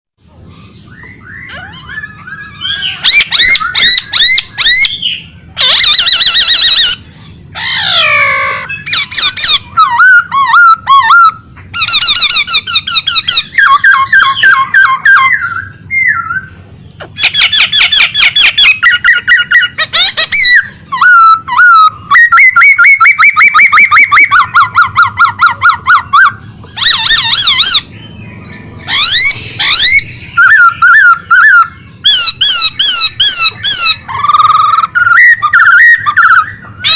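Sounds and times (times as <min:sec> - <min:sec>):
songbird singing: 0:00.2 - 0:36.9.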